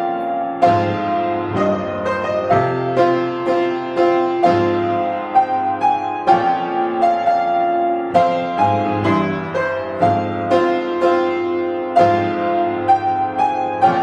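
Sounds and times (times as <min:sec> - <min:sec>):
solo piano playing: 0:00.0 - 0:14.0.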